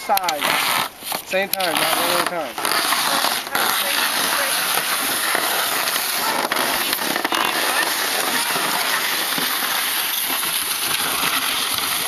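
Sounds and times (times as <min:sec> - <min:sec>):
plastic sled scraping over snow: 0:00.0 - 0:12.0.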